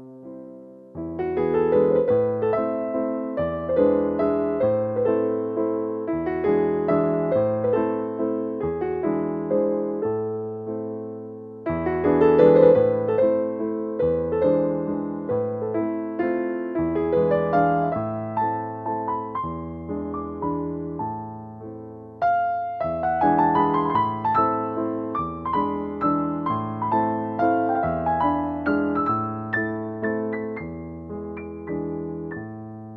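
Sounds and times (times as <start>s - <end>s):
gentle piano music: 0.0s - 32.9s.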